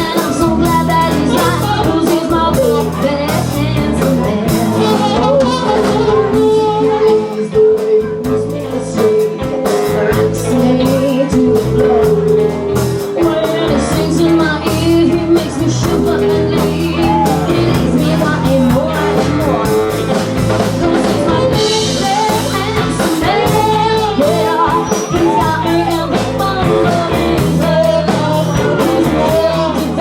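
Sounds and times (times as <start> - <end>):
drum kit beat: 0.0 - 30.0
guitar with long held notes: 0.0 - 30.0.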